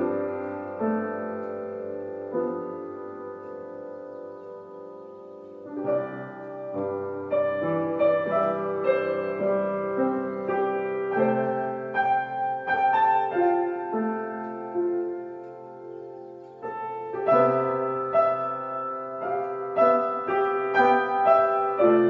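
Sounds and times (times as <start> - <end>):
slow solo piano melody: 0.0 - 22.0.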